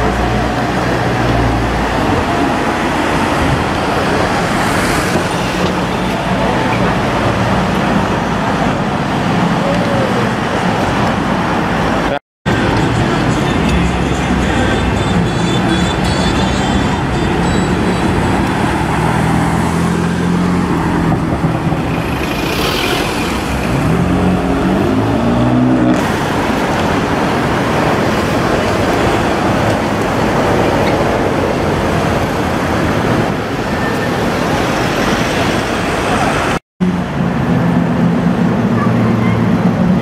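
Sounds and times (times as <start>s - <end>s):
road traffic noise: 0.0s - 40.0s.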